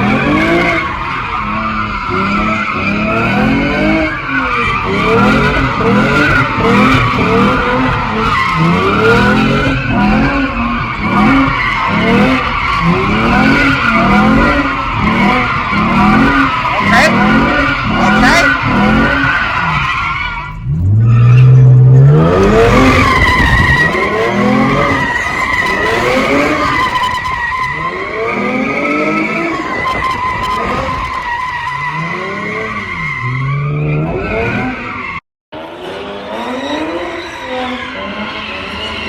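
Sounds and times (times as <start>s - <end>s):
car engine revving: 0.0s - 39.0s
high tire squeal: 0.0s - 39.0s.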